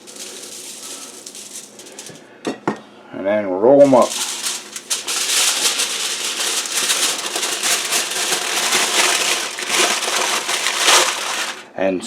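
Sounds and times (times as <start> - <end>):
aluminum foil crinkling: 0.0 - 2.3, 3.8 - 11.7.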